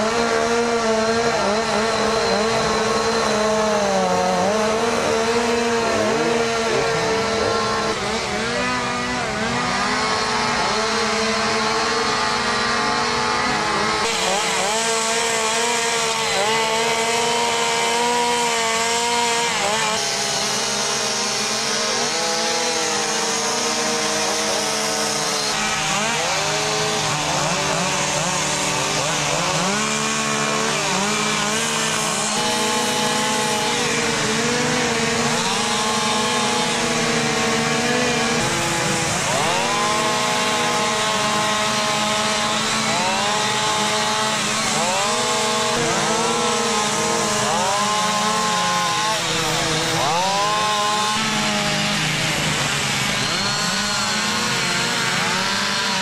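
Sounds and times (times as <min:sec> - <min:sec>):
chainsaw revving cutting wood: 0:00.0 - 0:56.0.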